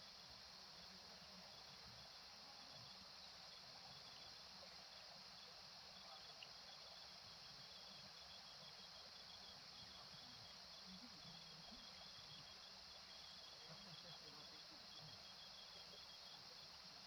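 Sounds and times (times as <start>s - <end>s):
crickets chirping: 0.0s - 17.0s
high hiss of insects: 0.0s - 17.0s.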